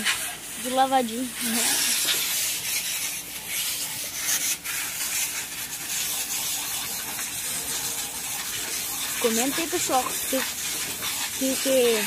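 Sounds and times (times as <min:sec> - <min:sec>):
pressure washer spraying water: 0:00.0 - 0:12.0.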